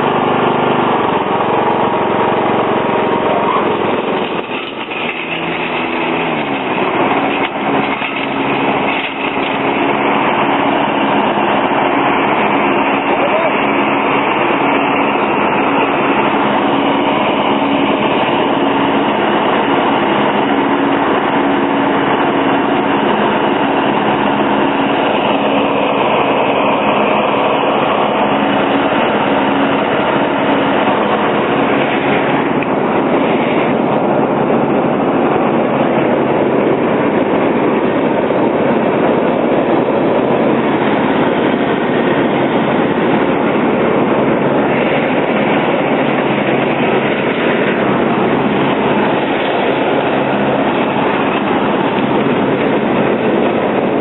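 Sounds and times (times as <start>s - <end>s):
lawn tractor engine running: 0.0s - 54.0s
rattling mechanical clatter: 0.0s - 54.0s.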